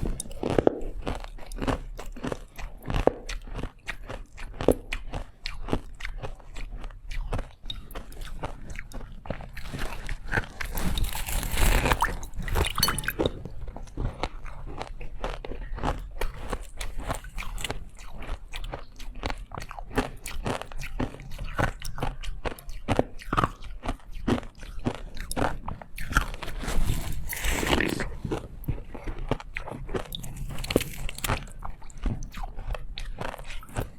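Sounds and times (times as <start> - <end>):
person chewing ice: 0.0 - 33.9.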